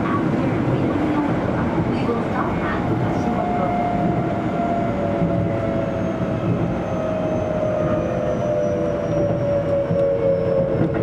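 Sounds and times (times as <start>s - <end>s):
train inverter whine: 0.0s - 11.0s
wheels rumbling on rail: 0.0s - 11.0s.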